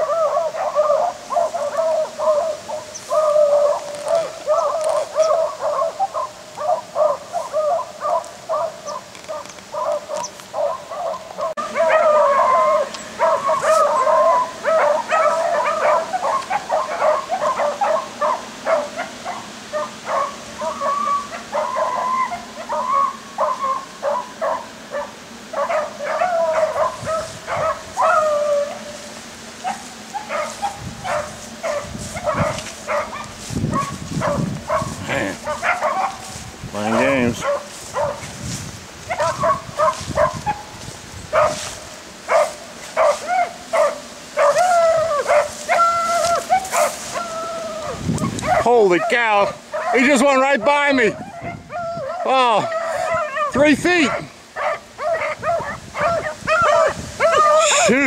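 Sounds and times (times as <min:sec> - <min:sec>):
hounds baying: 0:00.0 - 0:28.9, 0:29.5 - 0:38.3, 0:39.0 - 0:58.0.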